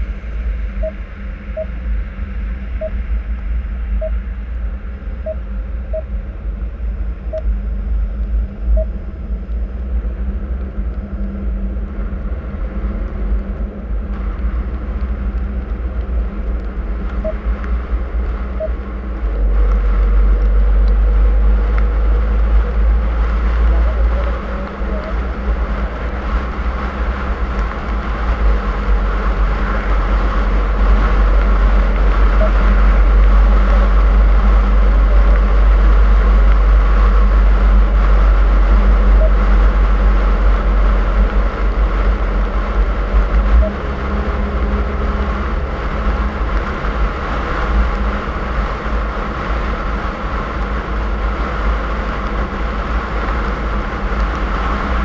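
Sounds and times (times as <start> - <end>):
car engine rumble: 0.0 - 55.0
road noise: 0.0 - 55.0.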